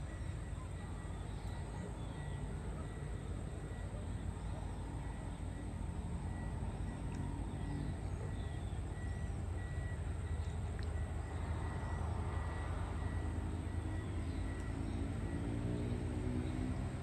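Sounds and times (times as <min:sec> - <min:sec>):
faint bird chirps: 0:00.0 - 0:05.7, 0:06.3 - 0:16.8
faint pulsing high tone: 0:00.0 - 0:16.6
distant traffic rumble: 0:00.0 - 0:17.0.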